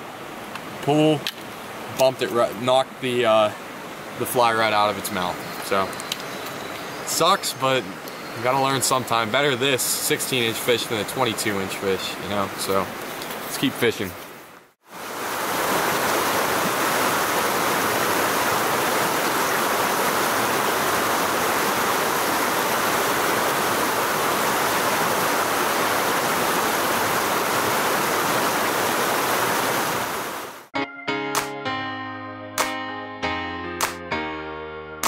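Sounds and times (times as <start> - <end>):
stream water rushing: 0.0 - 30.7.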